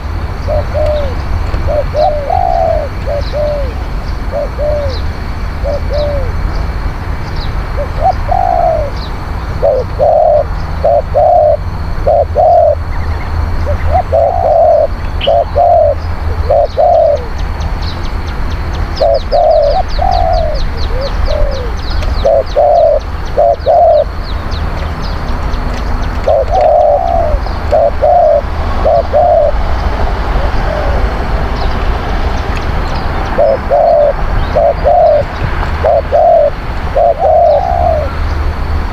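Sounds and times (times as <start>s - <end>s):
doves cooing: 0.0s - 6.4s, 7.8s - 12.8s, 13.6s - 17.4s, 19.0s - 24.2s, 25.8s - 31.5s, 33.2s - 38.3s.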